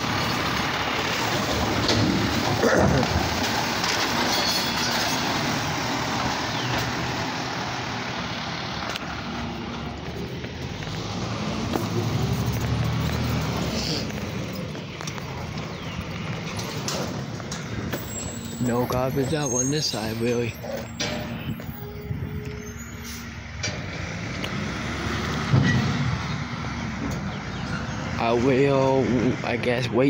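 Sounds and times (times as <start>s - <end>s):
garbage truck diesel engine: 0.0s - 30.0s.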